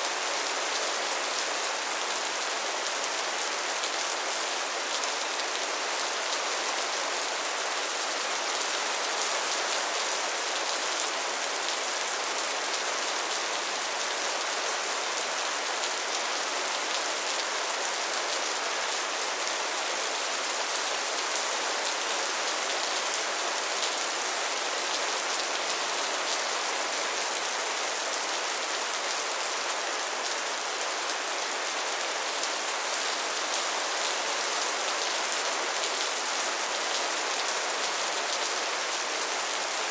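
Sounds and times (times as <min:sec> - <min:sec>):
soft rain: 0:00.0 - 0:39.9.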